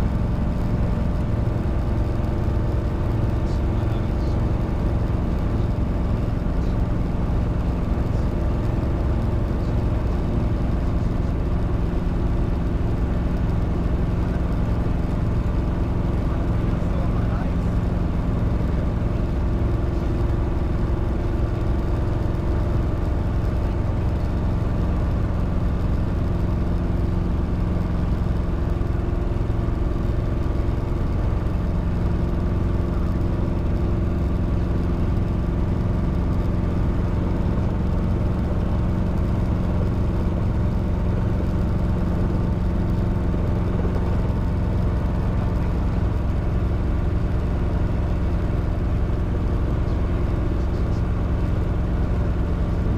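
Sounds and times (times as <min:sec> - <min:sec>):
helicopter engine and rotor: 0:00.0 - 0:52.9.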